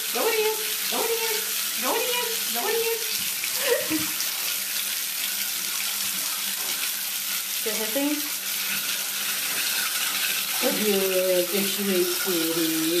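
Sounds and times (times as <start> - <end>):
bathtub faucet running: 0.0 - 13.0
water splashing into tub: 0.0 - 13.0.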